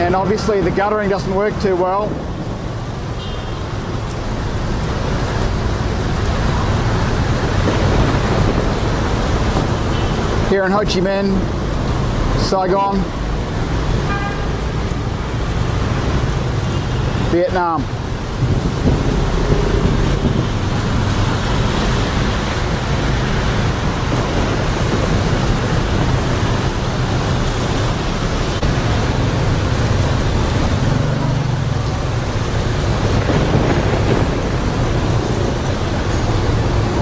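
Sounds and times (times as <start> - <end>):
heavy rain falling: 0.0 - 37.0
low rumble of traffic: 0.0 - 37.0
tyres splashing through water: 0.0 - 37.0.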